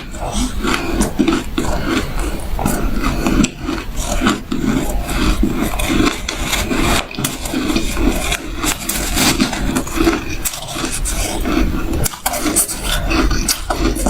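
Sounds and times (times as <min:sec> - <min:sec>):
person chewing shaved ice: 0:00.0 - 0:14.0.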